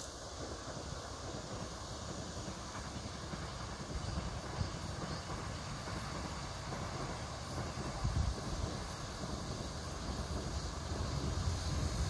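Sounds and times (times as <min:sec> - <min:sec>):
distant electric train running: 0:00.0 - 0:12.0.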